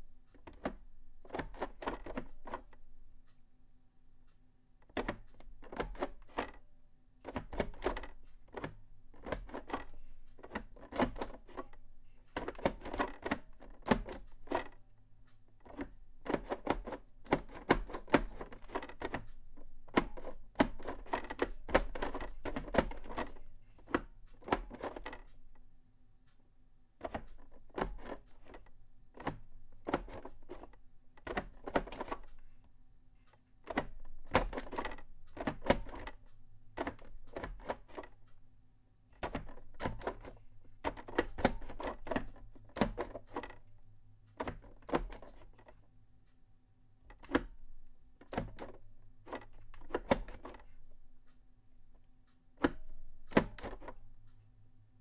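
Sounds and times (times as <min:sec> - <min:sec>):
keyboard clicks and knocks: 0:00.3 - 0:02.8, 0:04.8 - 0:25.6, 0:27.0 - 0:32.5, 0:33.3 - 0:38.4, 0:39.1 - 0:45.9, 0:47.1 - 0:47.6, 0:48.2 - 0:54.2.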